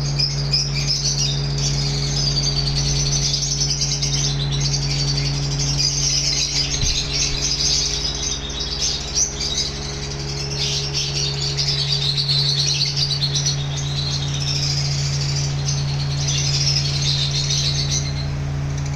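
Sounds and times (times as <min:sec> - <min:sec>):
lovebirds chattering: 0:00.0 - 0:18.9
steady low hum: 0:00.0 - 0:18.9.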